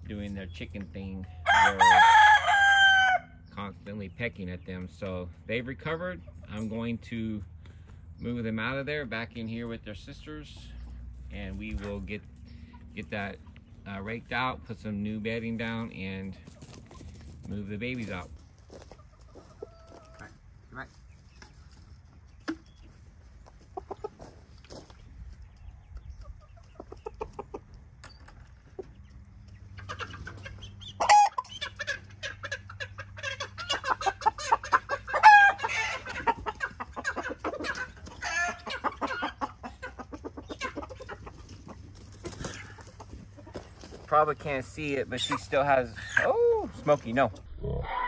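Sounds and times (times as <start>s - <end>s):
chickens clucking and squawking: 0.0s - 48.0s.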